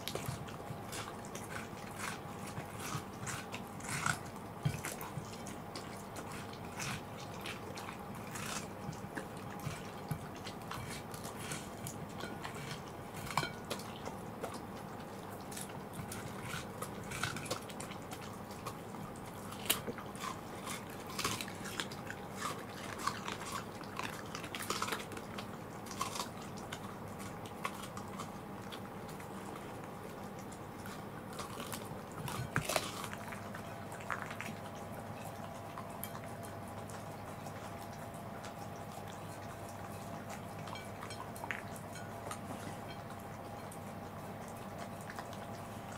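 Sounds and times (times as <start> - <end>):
dogs crunching watermelon: 0.0 - 45.9
dogs licking plates: 0.0 - 45.9.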